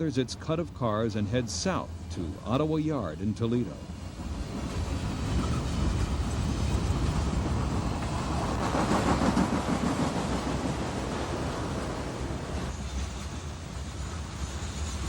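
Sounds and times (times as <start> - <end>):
locomotive engines rumbling: 0.0 - 15.0
rolling train wheels: 0.0 - 15.0.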